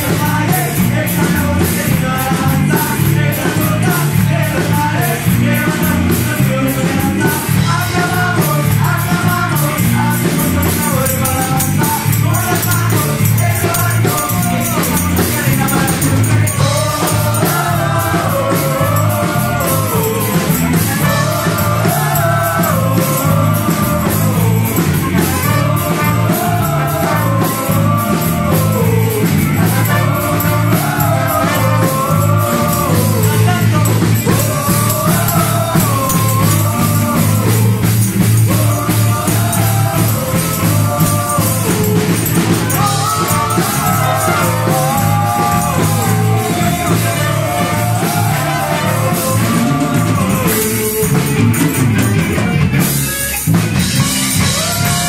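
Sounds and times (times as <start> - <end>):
singers on microphones: 0.0 - 52.6, 54.1 - 55.0
brass band with drums: 6.9 - 55.0.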